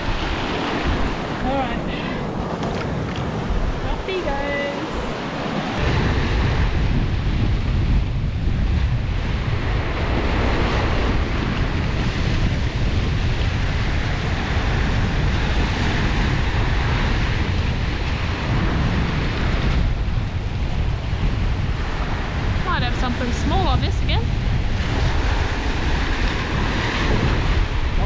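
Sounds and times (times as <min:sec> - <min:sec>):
ocean waves washing in: 0:00.0 - 0:28.0
wind rumbling on microphone: 0:00.0 - 0:28.0.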